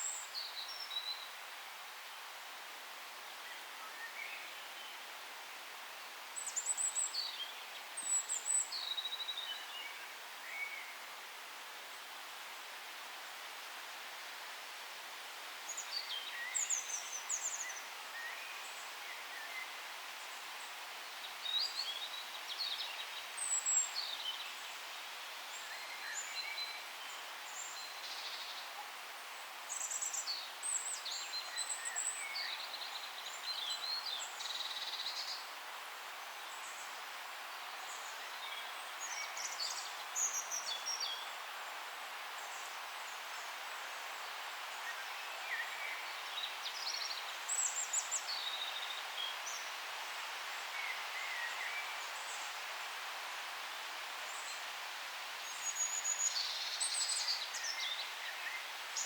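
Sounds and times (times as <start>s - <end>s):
forest ambience hiss: 0.0s - 59.0s.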